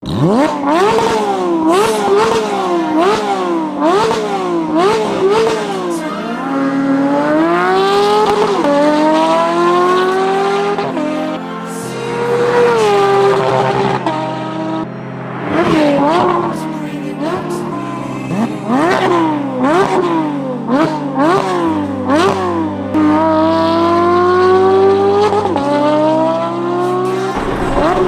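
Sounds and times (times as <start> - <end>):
car engine revving hard: 0.0 - 16.6, 17.2 - 28.0.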